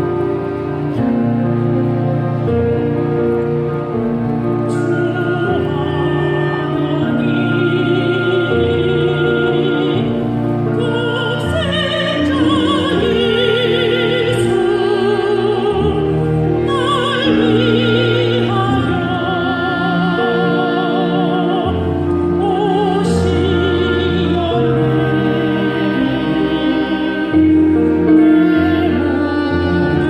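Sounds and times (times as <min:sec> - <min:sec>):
sustained instrumental accompaniment: 0:00.0 - 0:30.0
person singing with vibrato: 0:04.7 - 0:30.0.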